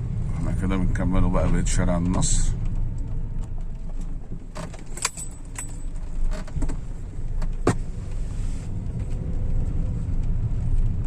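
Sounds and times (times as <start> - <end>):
car driving rumble: 0.0 - 11.0
rattles inside car: 0.0 - 11.0.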